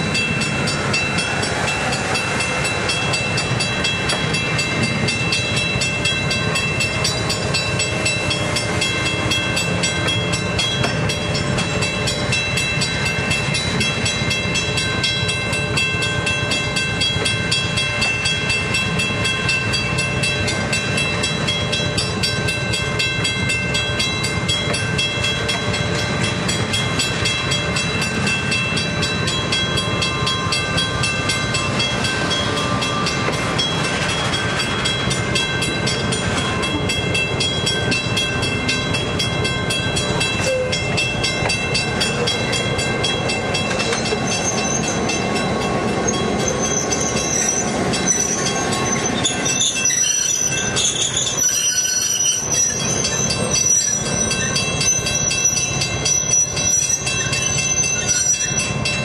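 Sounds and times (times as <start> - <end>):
diesel locomotive passing: 0.0 - 59.0
steady high ringing: 0.0 - 59.0
train cars rolling past: 0.0 - 59.0
wheels clicking over rail joints: 0.0 - 59.0.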